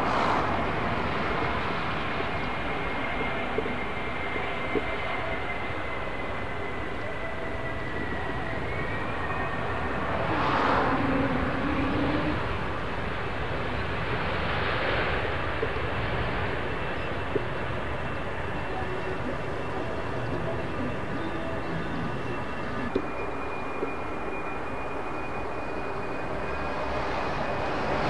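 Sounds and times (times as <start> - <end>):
faint high engine whine: 0.0 - 28.0
jet engines landing: 0.0 - 28.0.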